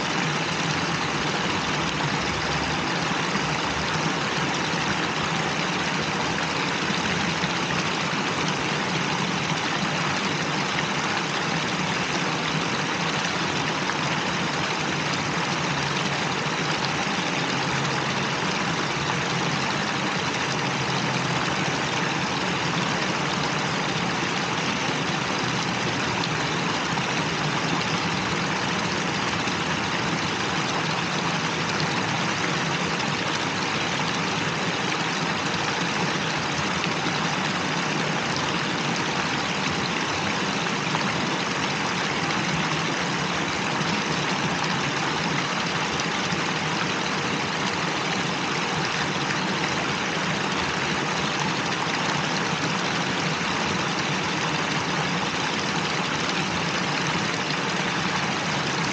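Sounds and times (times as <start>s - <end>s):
fountain water rushing and splashing: 0.0s - 58.9s.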